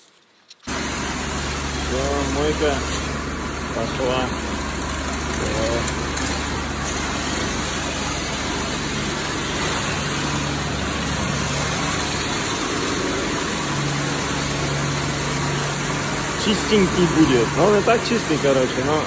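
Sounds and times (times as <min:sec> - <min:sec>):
pressure washer spray hiss: 0:00.7 - 0:19.0.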